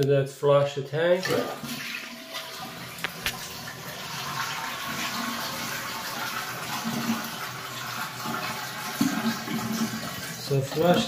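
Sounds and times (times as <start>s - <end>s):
water draining from toilet tank: 1.1s - 11.0s.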